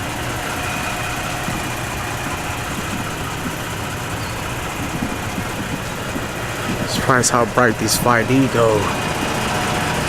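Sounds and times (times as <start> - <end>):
pickup engine idling: 0.0 - 10.0.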